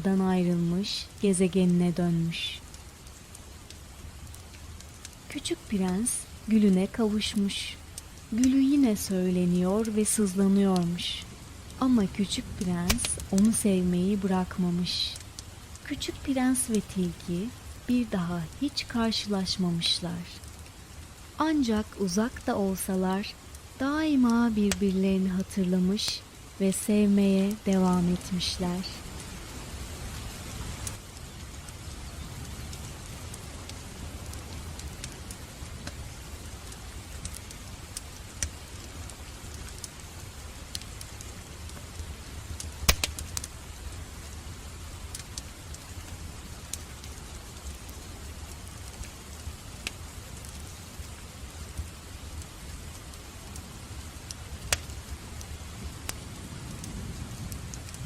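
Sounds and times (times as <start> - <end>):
steady rain: 0.0 - 58.0
wood fire crackling and popping: 0.0 - 58.0.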